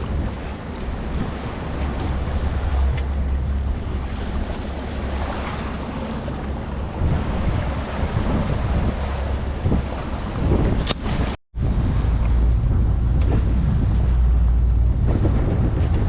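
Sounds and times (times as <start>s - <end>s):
sea washing: 0.0s - 16.0s
wind buffeting microphone: 0.0s - 16.0s.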